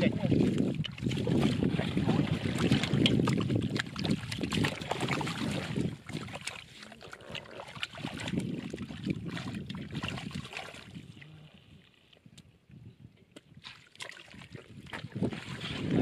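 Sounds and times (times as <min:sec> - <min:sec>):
shallow water sloshing: 0:00.0 - 0:12.1, 0:13.4 - 0:16.0
sharp splashes and knocks: 0:00.2 - 0:11.0, 0:13.4 - 0:16.0.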